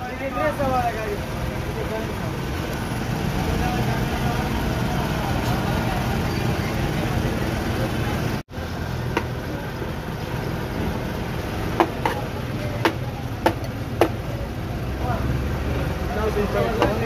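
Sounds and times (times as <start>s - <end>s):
street and crowd noise: 0.0s - 17.0s.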